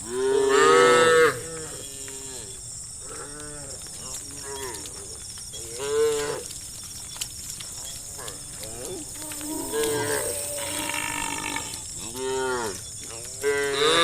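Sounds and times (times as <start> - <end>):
cows mooing: 0.0 - 5.0, 5.6 - 6.5, 7.9 - 14.0.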